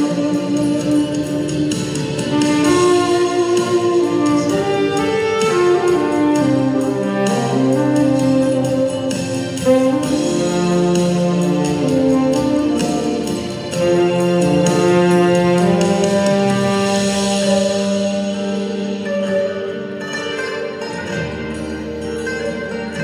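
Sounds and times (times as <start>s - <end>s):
instrumental melody of long notes: 0.0s - 23.0s
low accompaniment: 0.0s - 23.0s.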